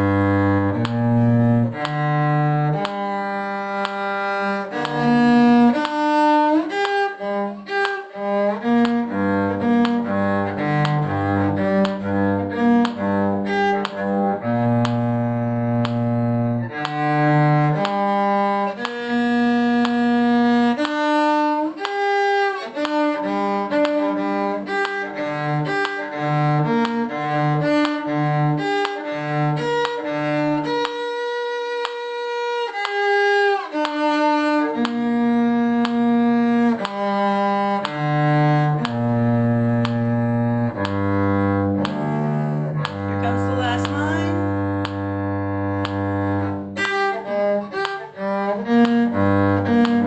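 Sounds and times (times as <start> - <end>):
bowed strings playing brisk tune: 0.0 - 50.0.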